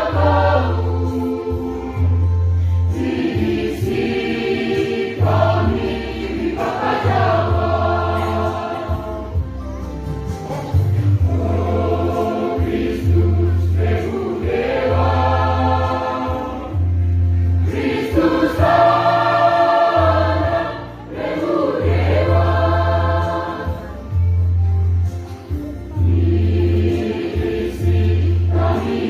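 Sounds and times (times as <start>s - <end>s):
choir singing in harmony: 0.0s - 9.7s, 10.5s - 24.6s, 26.0s - 29.0s.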